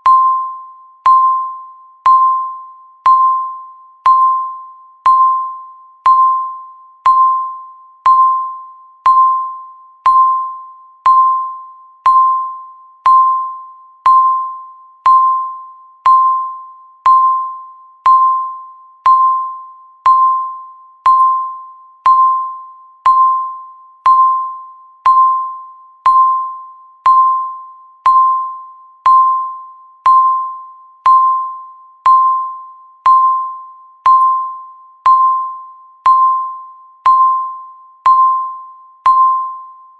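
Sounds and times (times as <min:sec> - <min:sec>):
timer beeping: 0:00.0 - 0:39.9.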